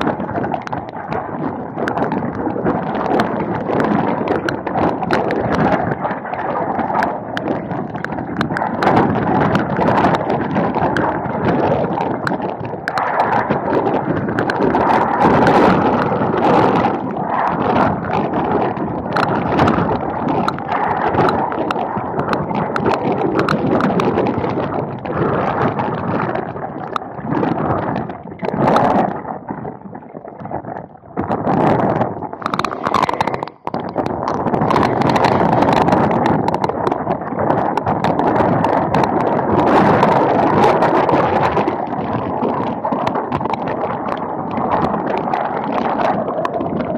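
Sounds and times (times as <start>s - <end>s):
gusty wind buffeting microphone: 0.0s - 46.9s
raindrops ticking on camera: 0.0s - 46.9s.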